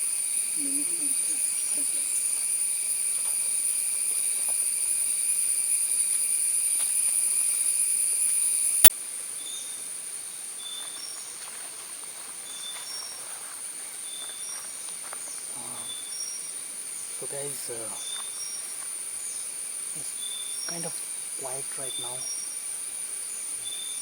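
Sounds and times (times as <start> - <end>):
cicadas singing: 0.0 - 24.0
faint insect drone: 0.0 - 24.0.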